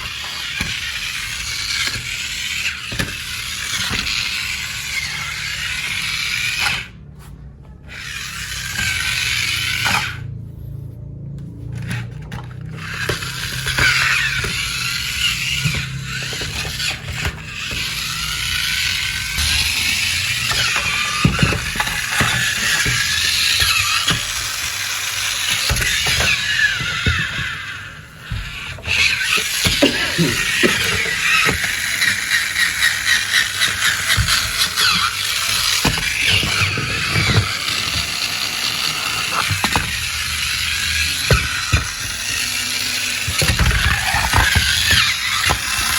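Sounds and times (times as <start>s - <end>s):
toy motor whirring: 0.0s - 45.9s.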